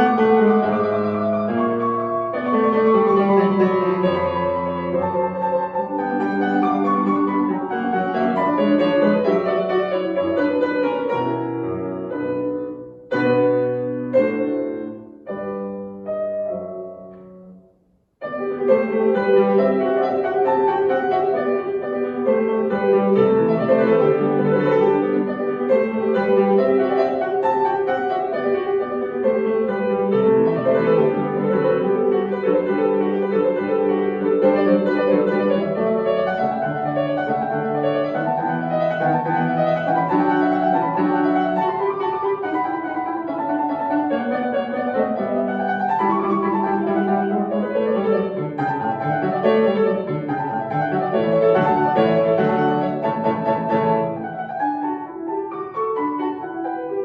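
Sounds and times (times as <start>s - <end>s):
solo piano classical music: 0.0s - 57.0s.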